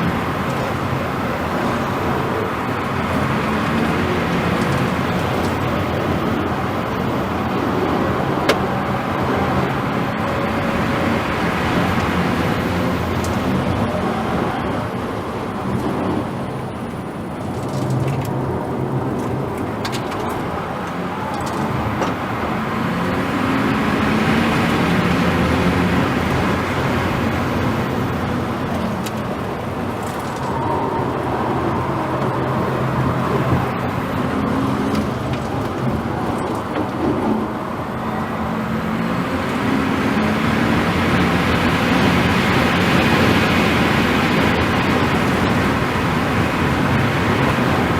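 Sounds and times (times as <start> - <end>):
low car motor tone: 0.0 - 47.9
road and wind noise: 0.0 - 47.9.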